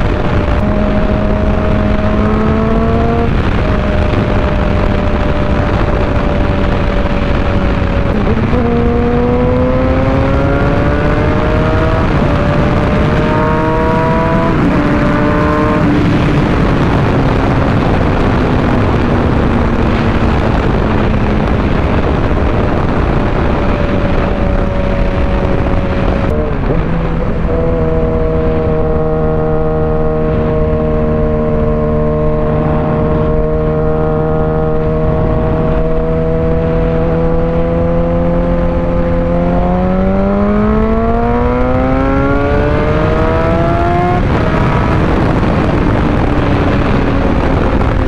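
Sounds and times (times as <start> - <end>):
motorcycle engine revving: 0.0 - 48.0
wind rush: 0.0 - 48.0.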